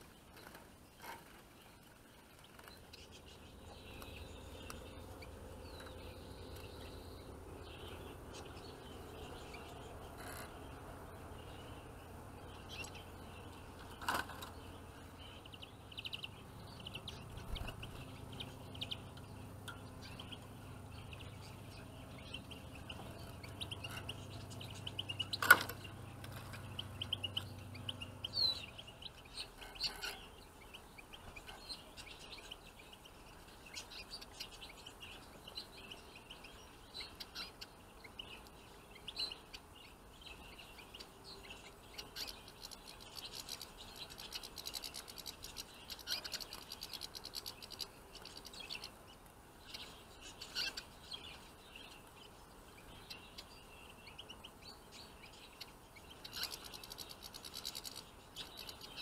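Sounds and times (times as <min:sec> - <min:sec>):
small birds chirping and twittering: 0:00.0 - 0:59.0.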